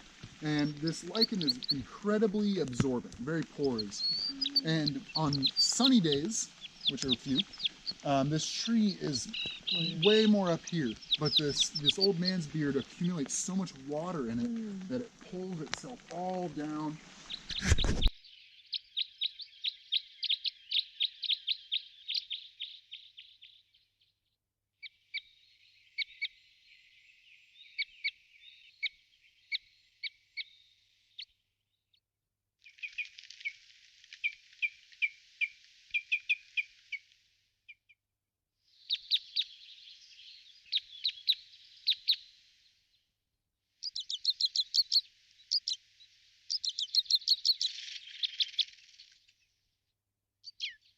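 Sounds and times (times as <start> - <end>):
bird chirping: 0.0 - 31.4, 38.8 - 42.5, 43.8 - 49.6, 50.4 - 50.9.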